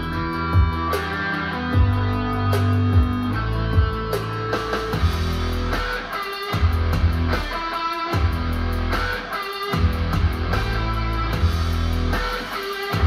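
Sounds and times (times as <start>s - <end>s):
guitar music with bass line: 0.0s - 13.0s.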